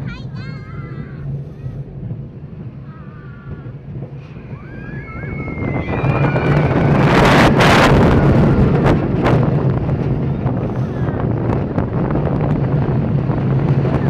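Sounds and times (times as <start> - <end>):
roller coaster wheel rumble: 0.0 - 14.0
wind rushing over microphone: 0.0 - 14.0.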